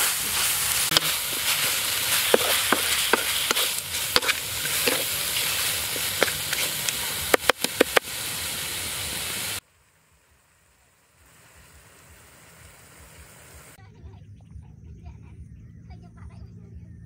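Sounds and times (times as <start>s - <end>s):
meat sizzling in a wok: 0.0s - 13.8s.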